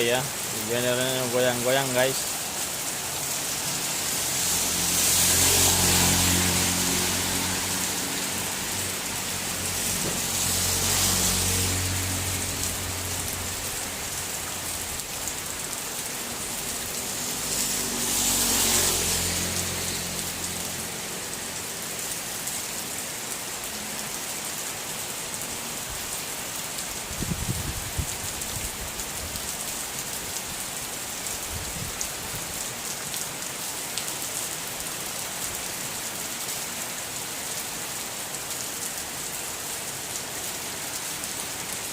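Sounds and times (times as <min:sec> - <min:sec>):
heavy rain hissing: 0:00.0 - 0:41.9.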